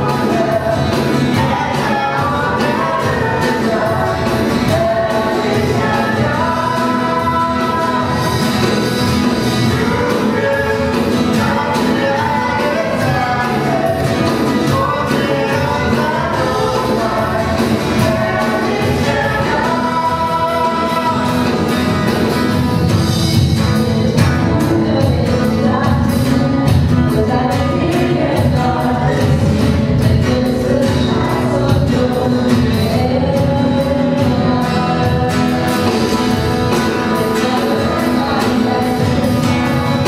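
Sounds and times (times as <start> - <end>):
women singing into microphones: 0.0 - 21.9, 23.8 - 40.0
acoustic guitar: 0.0 - 40.0
bass guitar: 0.0 - 40.0
keyboard: 0.0 - 40.0.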